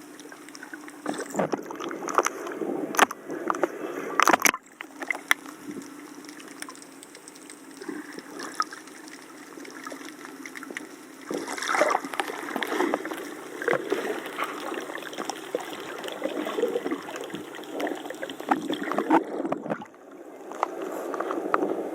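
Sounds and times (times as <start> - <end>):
water sloshing and splashing: 0.0 - 21.9.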